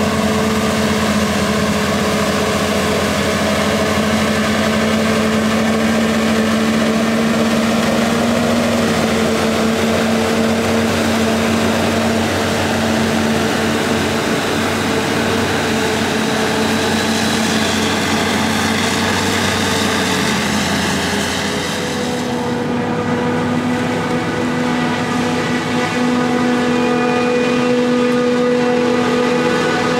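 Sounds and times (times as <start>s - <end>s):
harvester and tractor engines: 0.0s - 29.9s.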